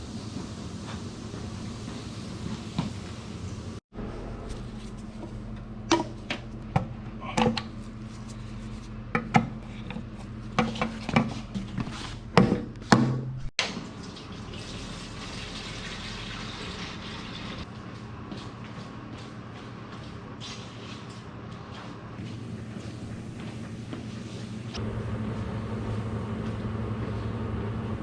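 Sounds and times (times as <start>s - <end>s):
steady low hum: 0.0s - 13.5s, 17.6s - 28.0s.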